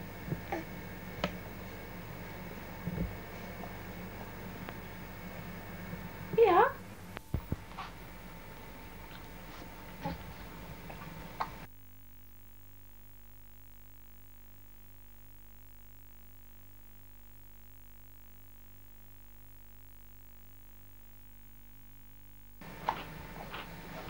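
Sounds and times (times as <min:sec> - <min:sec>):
electrical hum: 0:00.0 - 0:24.0
faint tape hiss: 0:00.0 - 0:24.0.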